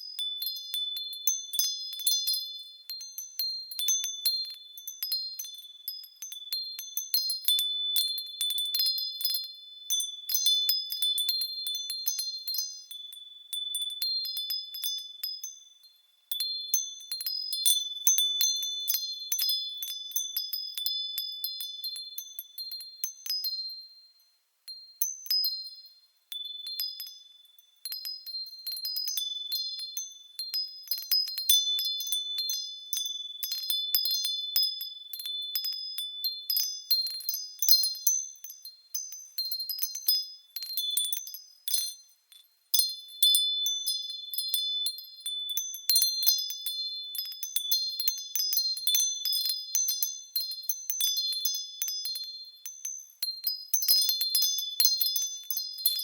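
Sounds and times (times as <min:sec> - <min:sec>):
glass wind chimes tinkling: 0:00.0 - 0:56.0.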